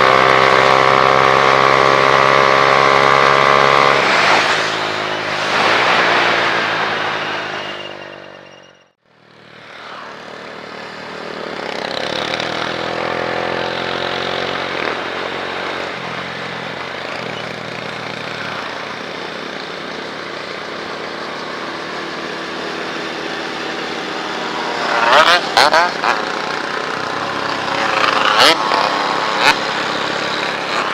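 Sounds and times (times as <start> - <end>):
motorcycle engine running: 0.0 - 8.5, 9.1 - 30.9
constant rushing noise: 3.6 - 8.5, 9.4 - 30.9.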